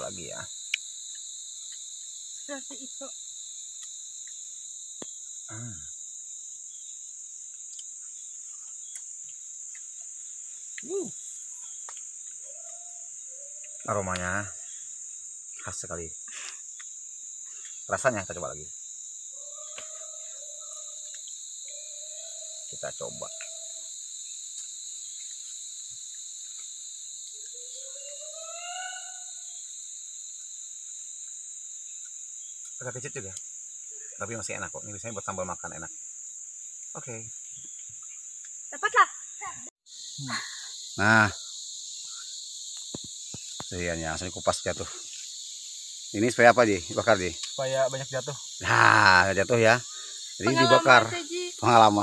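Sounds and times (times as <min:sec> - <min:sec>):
forest insects chorus: 0:00.0 - 0:52.0.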